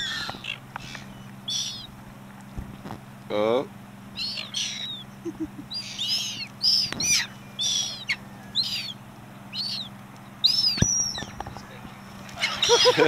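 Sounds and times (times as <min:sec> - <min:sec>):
faint low hum: 0:00.0 - 0:13.0
gulls calling: 0:00.0 - 0:13.0.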